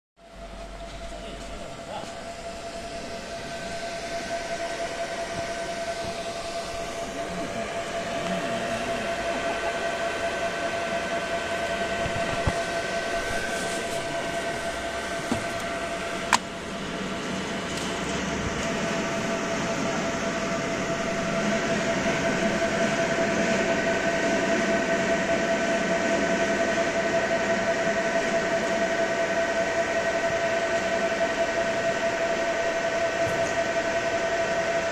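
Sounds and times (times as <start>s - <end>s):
held whine: 0.2s - 34.9s
laser machine humming: 0.3s - 34.9s.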